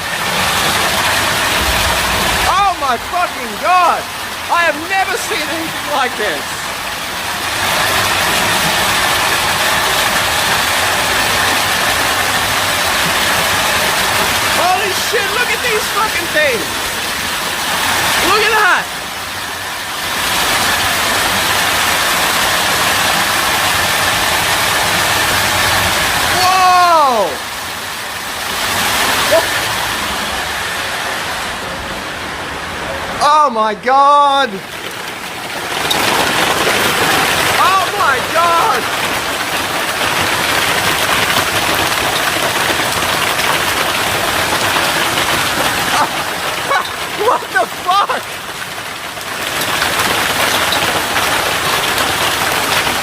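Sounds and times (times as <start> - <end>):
hailstones pelting car roof: 0.0 - 31.7, 33.2 - 53.0.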